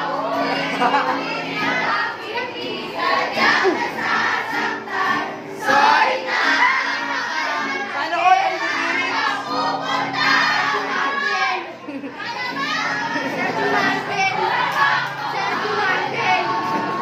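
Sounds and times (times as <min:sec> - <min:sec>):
acoustic guitar: 0:00.0 - 0:17.0
young voices singing together: 0:00.0 - 0:17.0.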